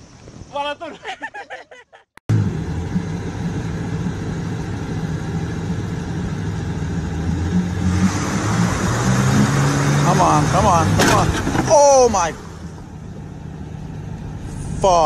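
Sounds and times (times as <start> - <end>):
truck engine under load: 2.3 - 15.0.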